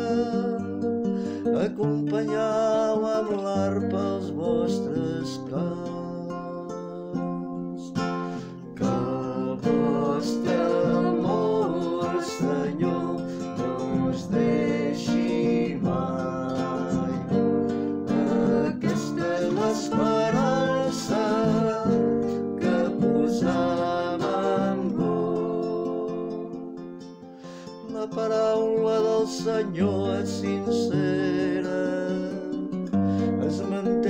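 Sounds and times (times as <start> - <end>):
acoustic guitar playing chords: 0.0 - 34.0.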